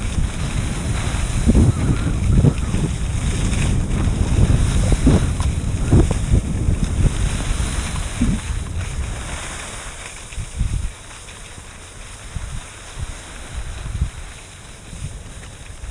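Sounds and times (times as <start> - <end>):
skis sliding on snow: 0.0 - 15.9
wind buffeting microphone: 0.0 - 15.9.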